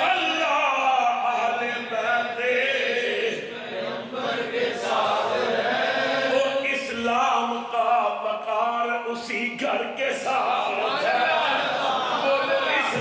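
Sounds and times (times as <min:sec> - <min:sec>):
men chanting: 0:00.0 - 0:07.9, 0:10.1 - 0:13.0.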